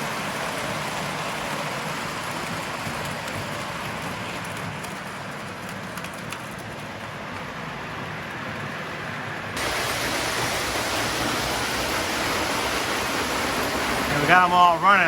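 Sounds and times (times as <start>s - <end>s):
toy trains rumbling on metal track: 0.0s - 8.8s, 9.6s - 15.0s.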